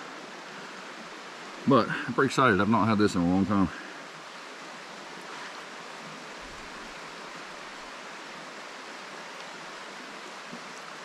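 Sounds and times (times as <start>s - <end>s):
creek flowing: 0.0s - 11.0s.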